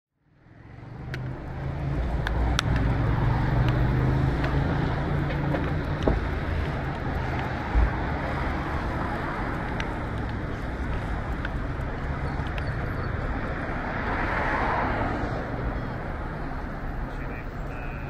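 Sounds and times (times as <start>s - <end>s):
road traffic rumble: 0.2s - 18.0s.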